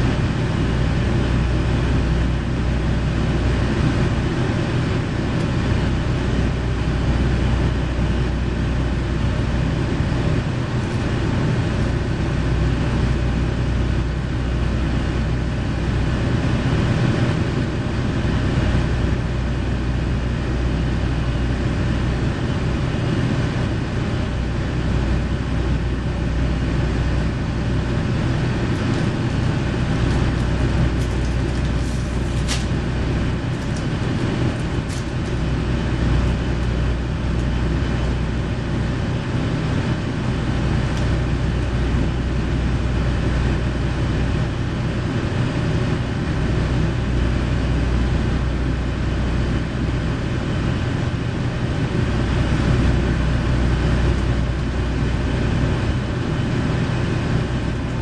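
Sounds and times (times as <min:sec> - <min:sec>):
diesel railcar engine idling: 0:00.0 - 0:58.0.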